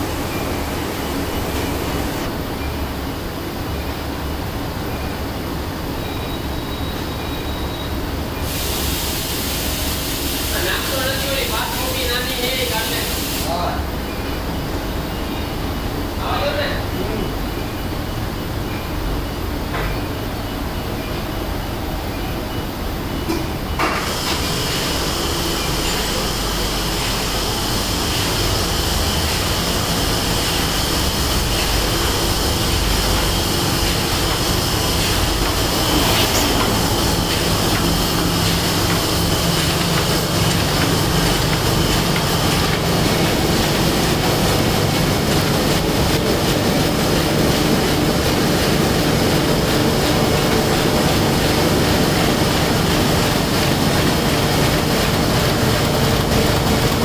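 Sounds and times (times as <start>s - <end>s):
printing press clatter and hum: 0.0s - 57.0s.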